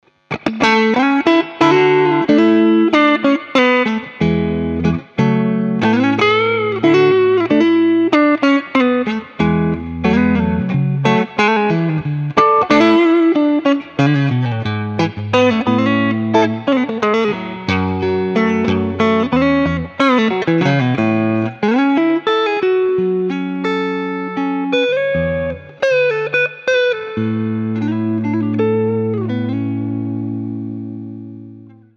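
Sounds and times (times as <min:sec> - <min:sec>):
electric guitar with string bends: 0:00.0 - 0:31.9.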